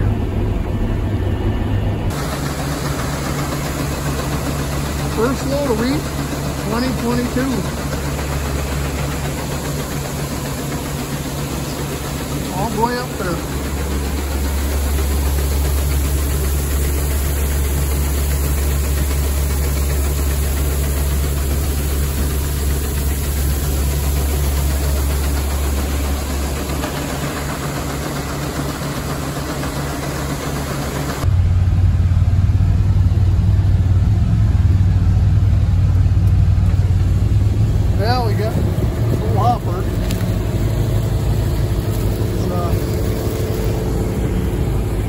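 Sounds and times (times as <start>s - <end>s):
deep engine drone in cab: 0.0s - 45.0s
grain auger machinery running: 0.0s - 45.0s
low engine hum: 0.0s - 45.0s.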